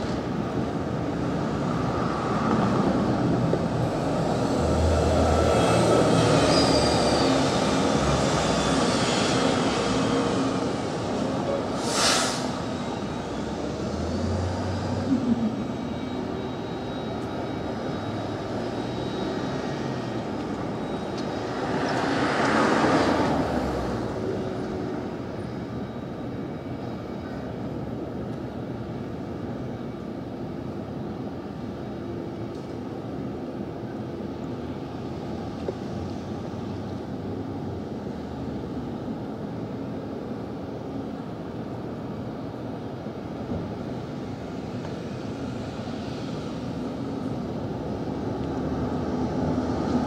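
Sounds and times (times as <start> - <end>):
city street traffic: 0.0 - 50.0.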